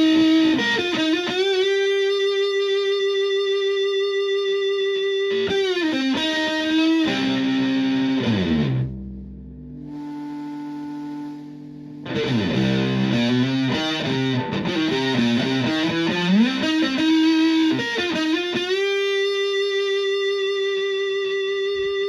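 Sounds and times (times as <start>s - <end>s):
fuzzed electric guitar: 0.0s - 22.0s.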